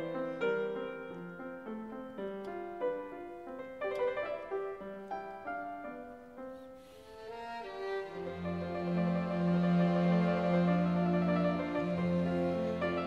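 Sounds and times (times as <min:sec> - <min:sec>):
piano playing: 0:00.0 - 0:13.0.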